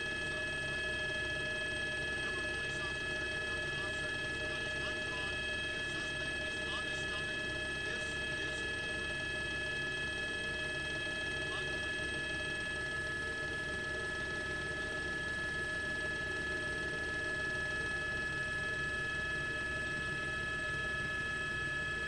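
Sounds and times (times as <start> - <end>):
helicopter rotor rumble: 0.0 - 22.0
turbine high-pitched whine: 0.0 - 22.0.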